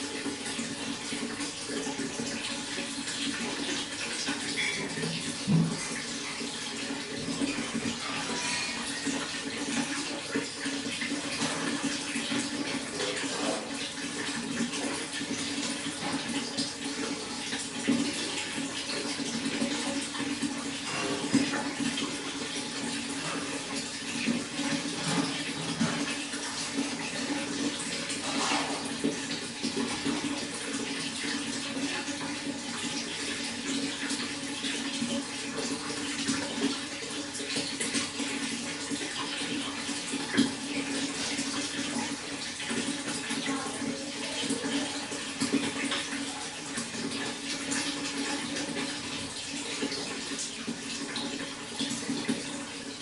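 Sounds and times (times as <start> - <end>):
water running and splashing: 0.0 - 53.0.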